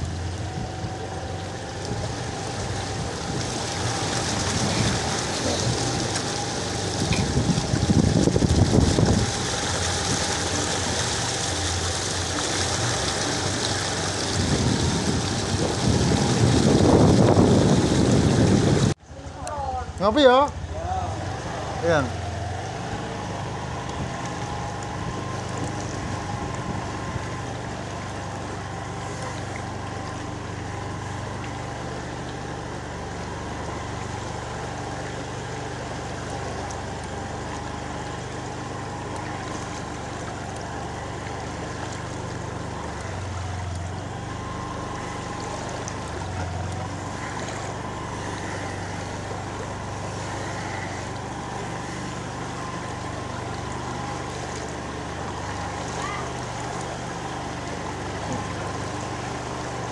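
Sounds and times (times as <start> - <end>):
water washing: 0.0 - 59.9.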